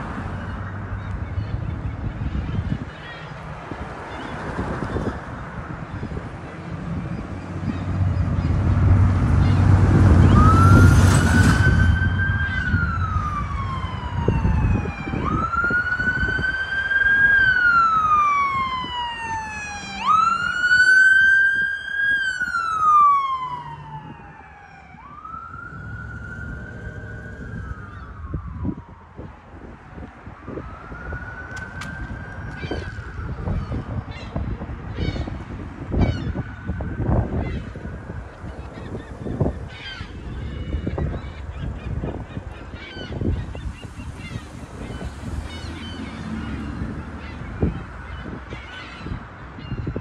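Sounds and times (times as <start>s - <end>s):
emergency siren wailing: 5.8s - 50.0s.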